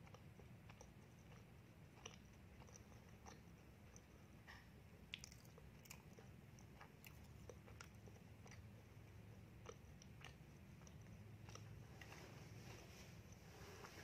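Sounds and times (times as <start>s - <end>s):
chewing with small crunches: 0.0s - 14.0s.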